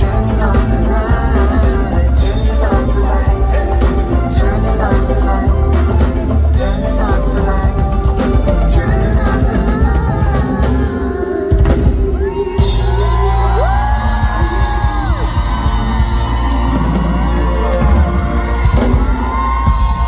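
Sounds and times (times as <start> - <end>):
live pop rock band: 0.0 - 20.0.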